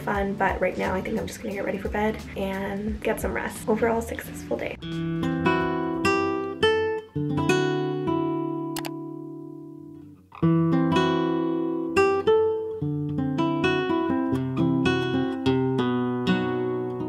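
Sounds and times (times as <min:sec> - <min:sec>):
plucked acoustic guitar: 0:03.0 - 0:17.0.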